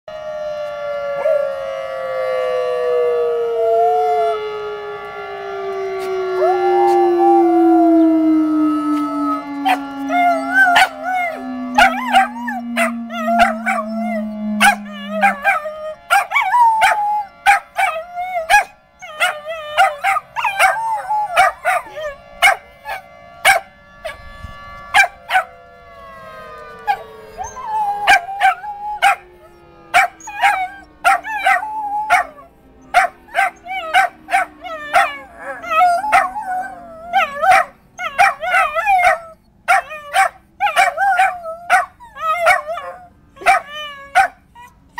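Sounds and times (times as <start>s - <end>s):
warning siren: 0.0s - 44.9s
dog howling and barking: 0.5s - 4.6s, 6.3s - 24.2s, 24.9s - 25.5s, 26.7s - 44.9s.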